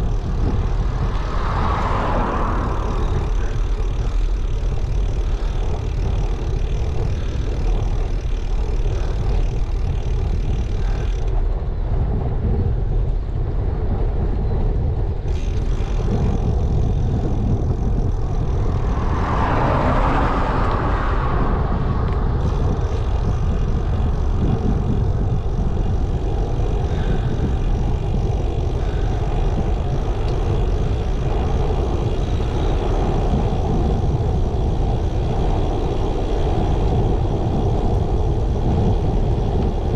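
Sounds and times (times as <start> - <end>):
vehicle passing: 0.0 - 10.0, 15.3 - 39.9
wind rumble on microphone: 0.0 - 39.9.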